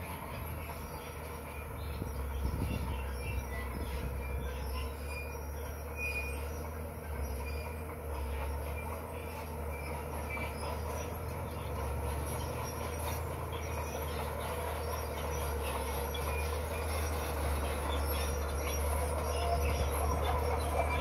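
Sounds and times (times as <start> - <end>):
diesel engine running: 0.0 - 21.0
steel tracks squeaking and clanking: 0.0 - 21.0.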